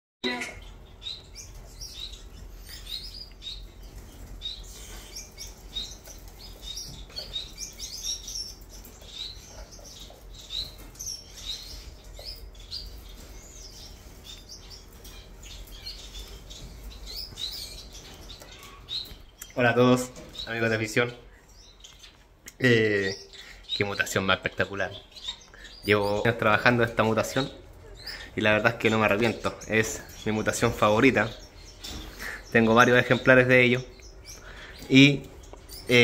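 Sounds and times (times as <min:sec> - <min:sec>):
finches chirping: 0:00.2 - 0:36.0.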